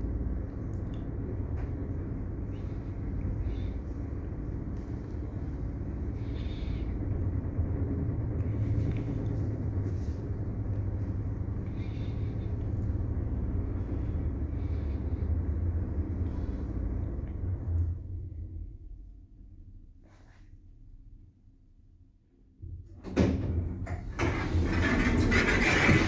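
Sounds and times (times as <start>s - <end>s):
lift rumble and hum: 0.0s - 26.0s.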